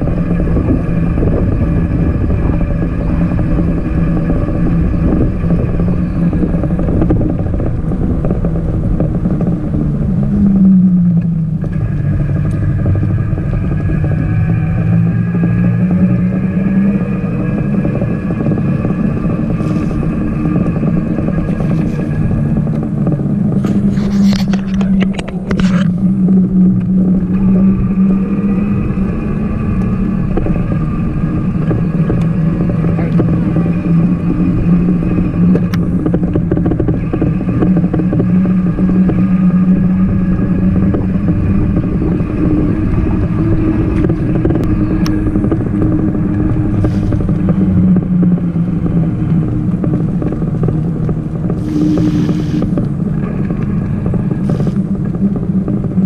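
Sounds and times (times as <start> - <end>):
trike motor humming: 0.0 - 56.0.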